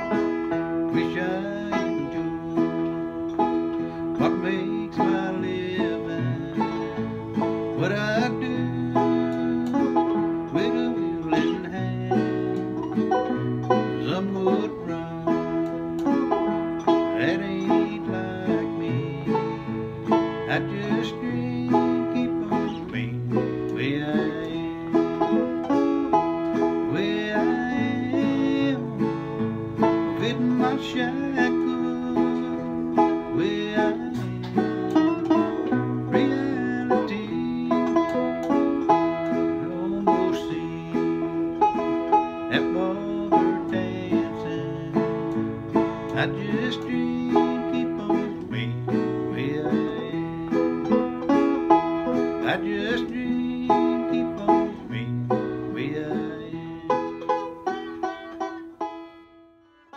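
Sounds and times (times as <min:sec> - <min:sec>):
guitar: 0:00.0 - 0:59.9
picked banjo: 0:00.0 - 0:59.9.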